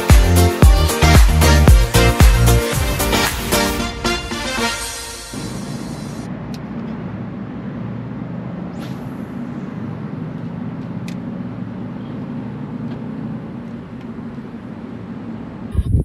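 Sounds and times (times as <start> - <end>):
low motor rumble: 1.7 - 16.0.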